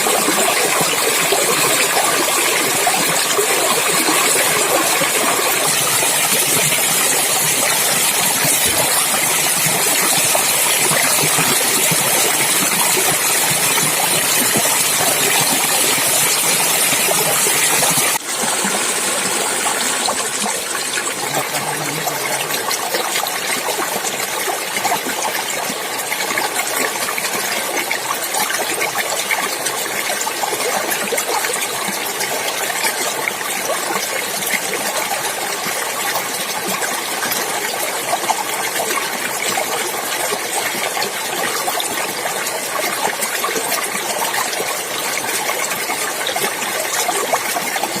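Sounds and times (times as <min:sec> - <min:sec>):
stream water running and splashing: 0:00.0 - 0:48.0.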